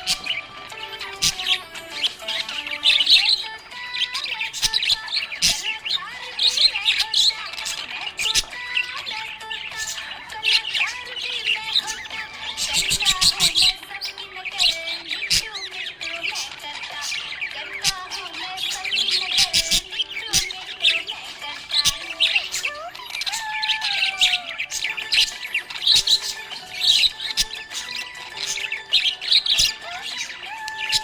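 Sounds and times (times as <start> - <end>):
parrots chirping and squawking: 0.0 - 31.0.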